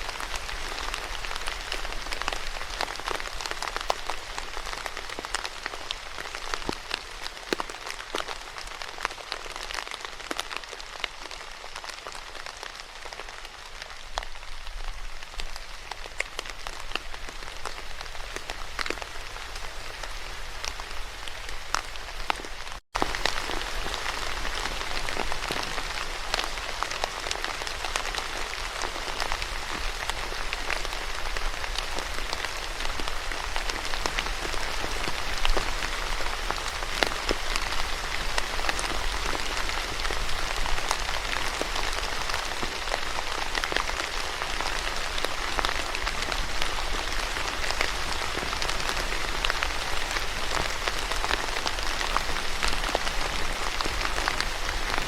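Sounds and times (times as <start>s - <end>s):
rain drops tapping on a surface: 0.0s - 55.0s.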